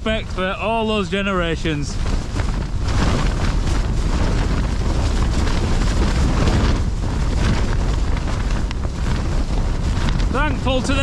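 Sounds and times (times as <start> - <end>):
deep rush of wind: 0.0 - 11.0
tent fabric flapping: 0.0 - 11.0.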